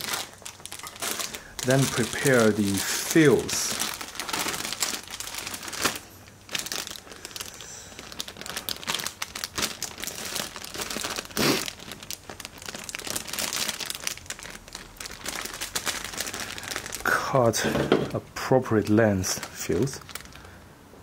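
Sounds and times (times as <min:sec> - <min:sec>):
plastic bag crinkling: 0:00.0 - 0:20.6.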